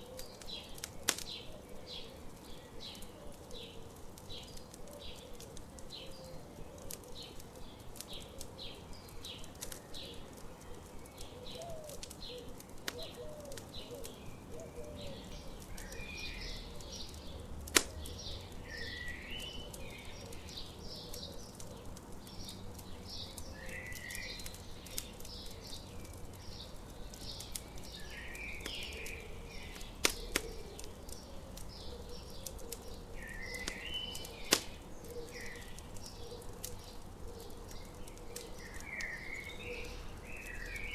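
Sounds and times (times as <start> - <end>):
birds chirping: 0.0 - 40.9
campfire crackling pops: 0.0 - 40.9.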